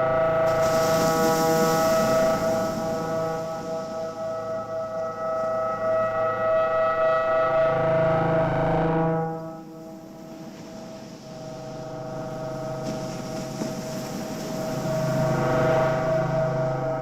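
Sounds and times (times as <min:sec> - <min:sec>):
synthesizer drone chord: 0:00.0 - 0:13.9, 0:14.5 - 0:17.0.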